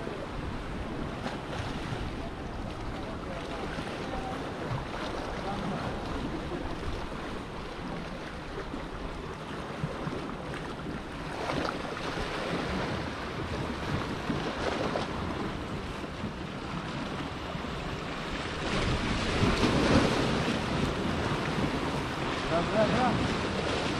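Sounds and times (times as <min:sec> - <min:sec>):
wind buffeting microphone: 0:00.0 - 0:23.9
water lapping against rocks: 0:00.6 - 0:23.9.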